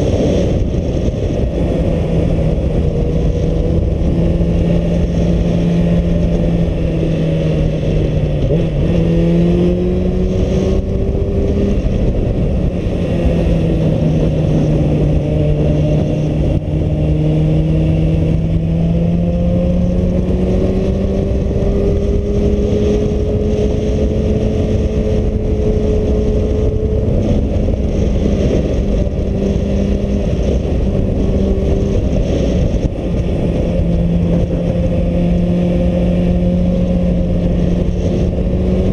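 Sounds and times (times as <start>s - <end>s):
motorcycle engine: 0.0s - 38.9s
wind buffeting microphone: 0.0s - 38.9s.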